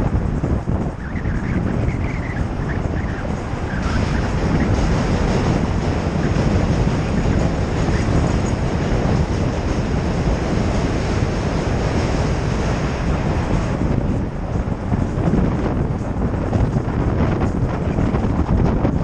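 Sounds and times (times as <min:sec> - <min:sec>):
subway train rumble: 0:00.0 - 0:19.0
wind rush on microphone: 0:00.0 - 0:19.0.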